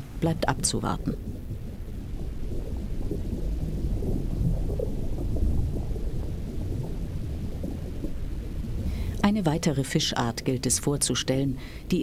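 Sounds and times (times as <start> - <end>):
low underwater rumble: 0.0 - 11.8.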